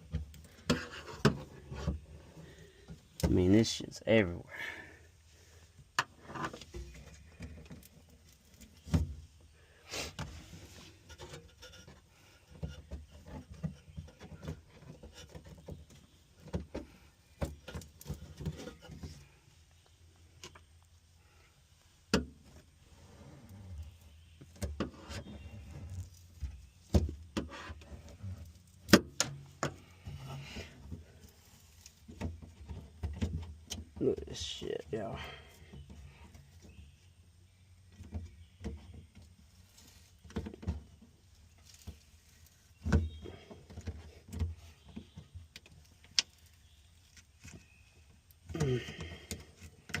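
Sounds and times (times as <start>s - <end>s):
scraping and rustling: 0.0s - 3.2s, 5.3s - 20.4s, 21.3s - 34.0s, 38.1s - 50.0s.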